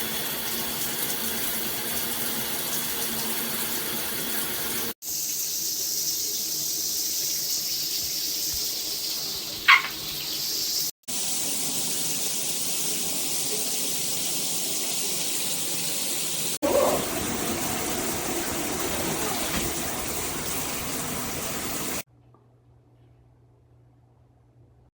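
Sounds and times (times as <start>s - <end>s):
water spraying from shower head: 0.0s - 22.0s.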